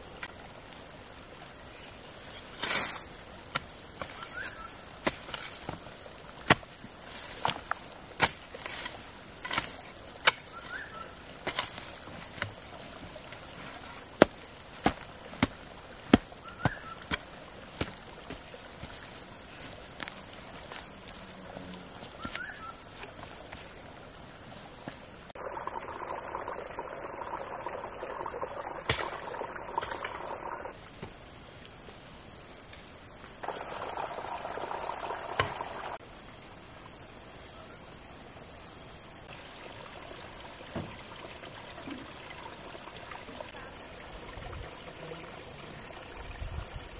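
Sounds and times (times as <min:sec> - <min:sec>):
rushing water: 0:00.0 - 0:24.6, 0:25.4 - 0:30.8, 0:33.4 - 0:36.0, 0:39.2 - 0:46.9.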